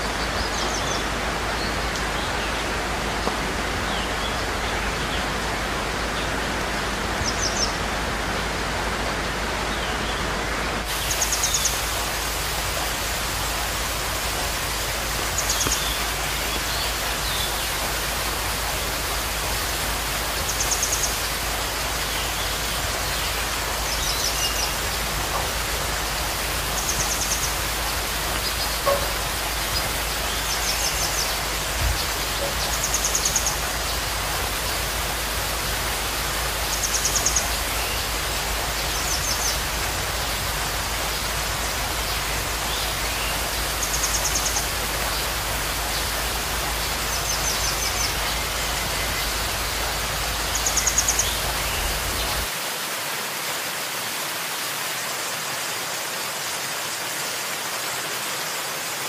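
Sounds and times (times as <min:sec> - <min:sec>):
river rushing over waterfalls: 0:00.0 - 0:59.0.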